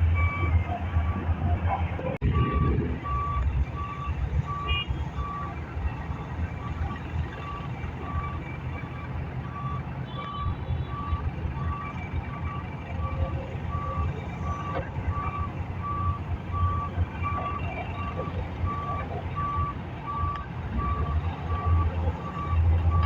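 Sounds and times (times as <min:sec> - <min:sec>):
diesel engine rumble: 0:00.0 - 0:23.0
reversing alarm beeping: 0:00.0 - 0:23.0.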